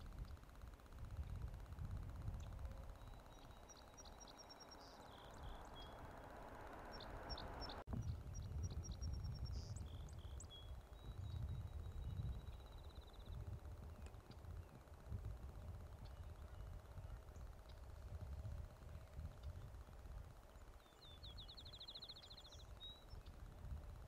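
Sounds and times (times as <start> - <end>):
low steady rumble: 0.0 - 24.0
songbird singing: 0.0 - 24.0.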